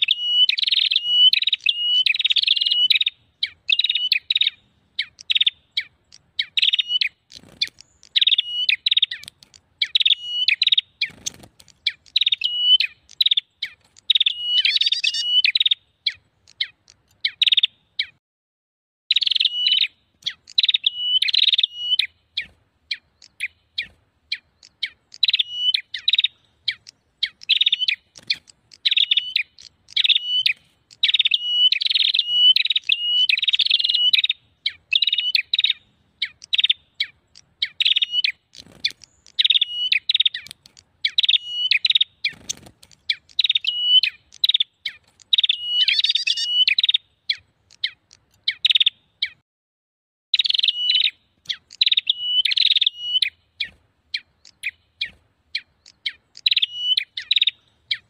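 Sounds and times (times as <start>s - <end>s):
bird chirping rapidly: 0.0s - 18.2s, 19.1s - 49.4s, 50.4s - 58.0s.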